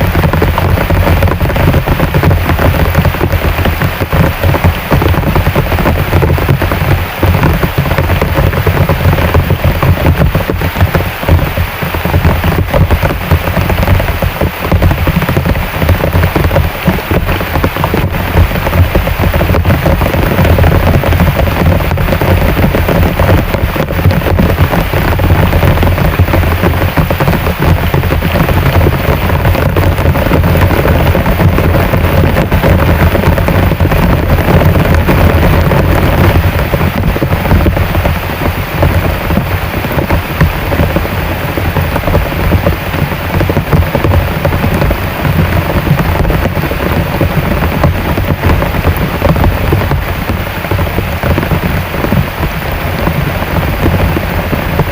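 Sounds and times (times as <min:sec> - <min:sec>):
deep continuous rumble: 0:00.0 - 0:54.9
heavy rain pouring: 0:00.0 - 0:54.9.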